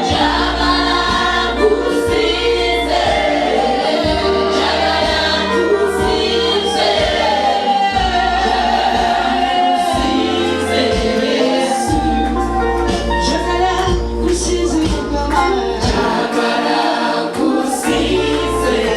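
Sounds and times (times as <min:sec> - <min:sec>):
band with bass and beat: 0:00.0 - 0:18.9
choir singing gospel music: 0:00.0 - 0:18.9.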